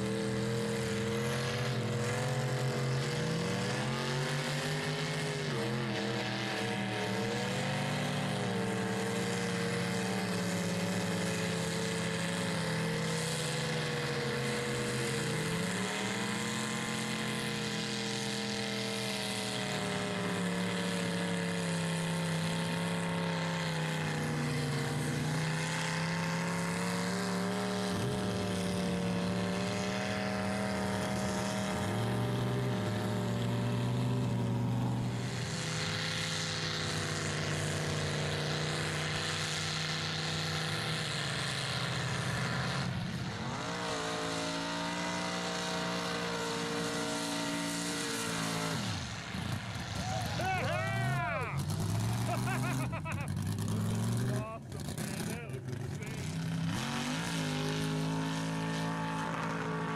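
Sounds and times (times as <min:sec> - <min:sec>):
truck engine revving high: 0:00.0 - 0:59.9.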